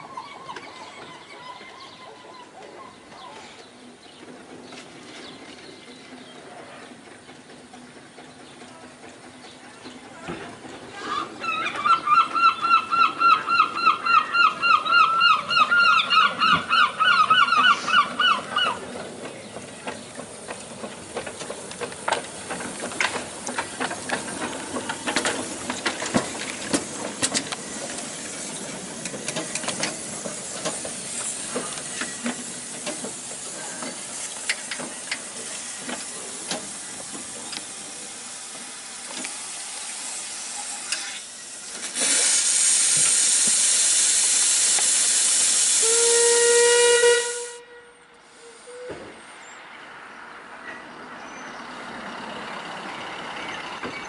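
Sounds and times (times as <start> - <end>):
steam locomotive hissing: 3.4 - 49.4.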